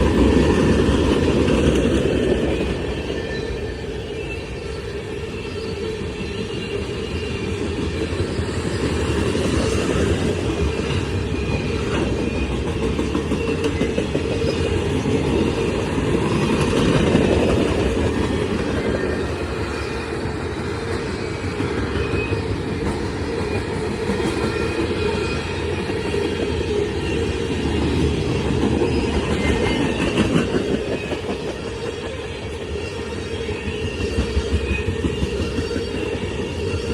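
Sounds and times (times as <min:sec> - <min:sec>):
faint high wheel squeal: 0:02.1 - 0:15.0, 0:15.8 - 0:36.9.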